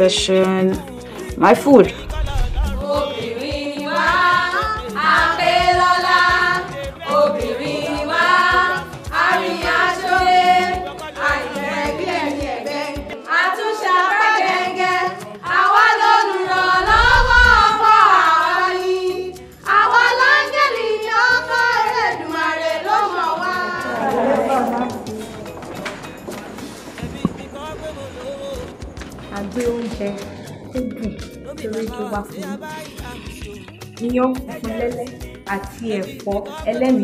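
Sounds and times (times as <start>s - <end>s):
women singing together: 0.0s - 37.0s.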